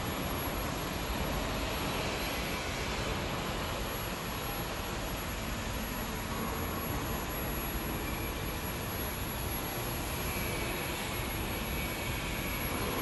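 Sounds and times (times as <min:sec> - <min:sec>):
furnace machine noise: 0:00.0 - 0:13.0.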